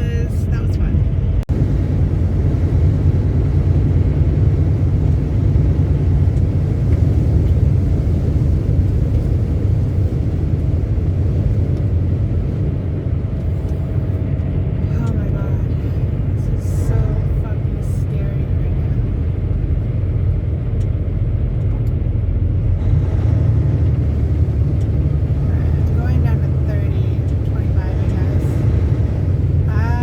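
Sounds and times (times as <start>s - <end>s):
road noise: 0.0s - 30.0s
truck engine rumble: 0.0s - 30.0s.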